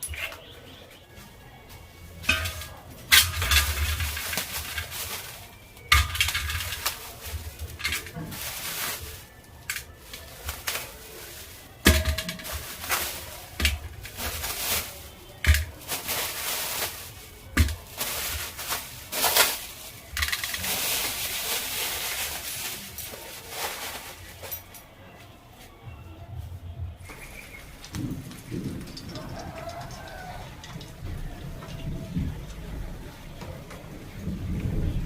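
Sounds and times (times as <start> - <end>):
utensils and dishes clattering: 0.0 - 25.0, 27.0 - 33.8.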